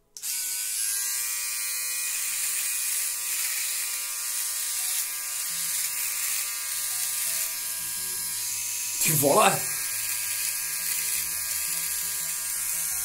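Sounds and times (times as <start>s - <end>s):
electric shaver on stubble: 0.0s - 13.0s.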